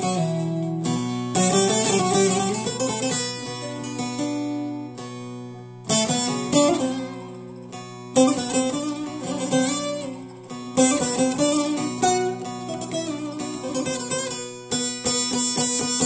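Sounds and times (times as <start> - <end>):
plucked lute melody with drone: 0.0 - 16.0
sharp strummed strokes: 0.0 - 16.0.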